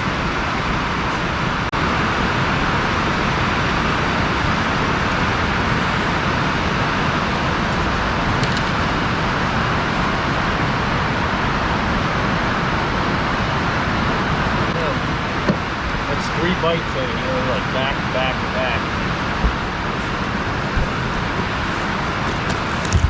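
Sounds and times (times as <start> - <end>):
loud rushing noise: 0.0 - 23.0.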